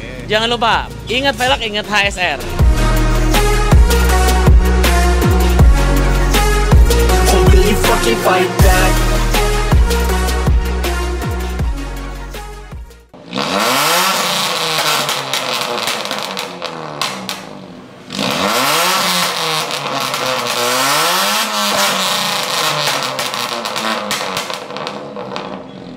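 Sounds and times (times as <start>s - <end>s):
car engine revving: 0.0s - 25.9s
exhaust crackles: 0.0s - 25.9s.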